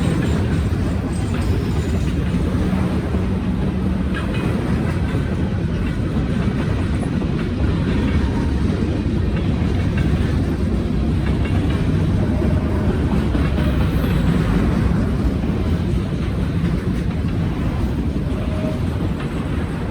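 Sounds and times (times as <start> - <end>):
freight train rumbling past: 0.0 - 19.9
train wheel clatter: 0.0 - 19.9.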